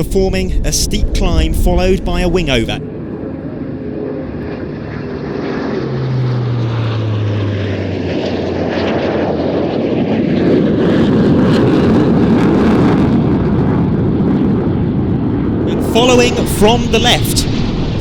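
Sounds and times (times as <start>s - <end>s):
aircraft engine roar: 0.0s - 18.0s
propeller aircraft passing: 0.0s - 18.0s.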